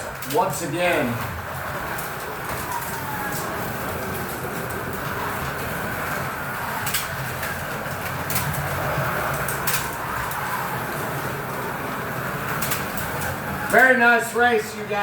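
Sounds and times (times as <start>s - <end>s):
slot car electric motors whining: 0.0s - 15.0s
wheels rattling in track slots: 0.0s - 15.0s.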